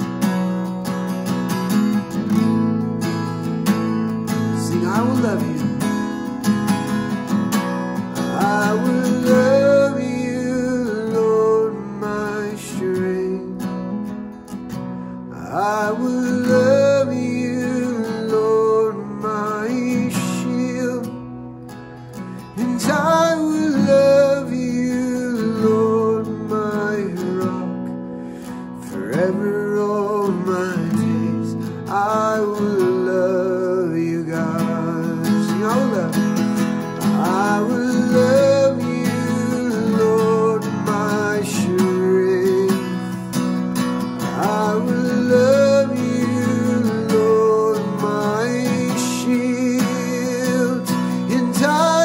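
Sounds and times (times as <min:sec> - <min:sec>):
strummed acoustic guitar: 0:00.0 - 0:52.0
man singing: 0:03.6 - 0:14.2, 0:15.3 - 0:21.5, 0:22.1 - 0:52.0.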